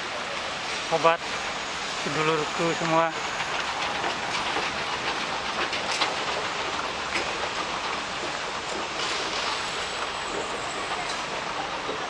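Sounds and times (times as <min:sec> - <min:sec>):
moving walkway rattling hum: 0:00.0 - 0:12.0.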